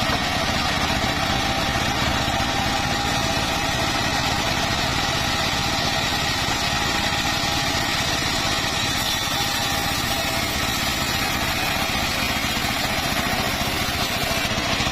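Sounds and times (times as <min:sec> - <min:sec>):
circular saw engine running: 0:00.0 - 0:14.9.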